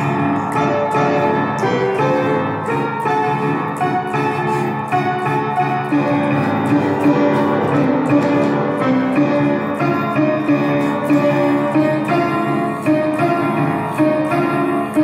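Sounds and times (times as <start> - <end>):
piano-like notes: 0.0 - 15.0
sustained keyboard chords: 0.0 - 15.0.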